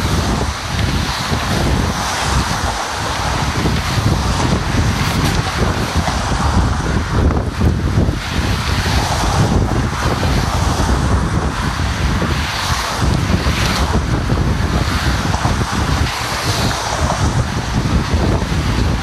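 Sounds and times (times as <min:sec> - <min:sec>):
road traffic rushing: 0:00.0 - 0:19.0
wind buffeting microphone: 0:00.0 - 0:19.0.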